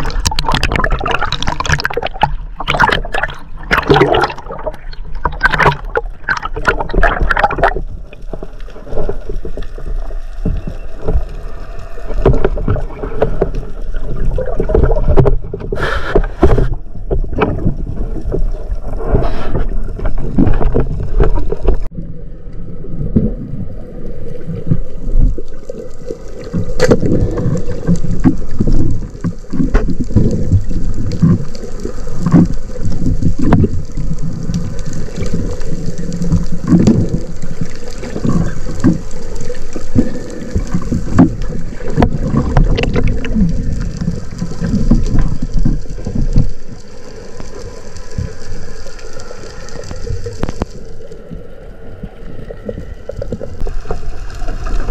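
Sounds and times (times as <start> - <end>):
water rushing and sloshing underwater: 0.0 - 54.9.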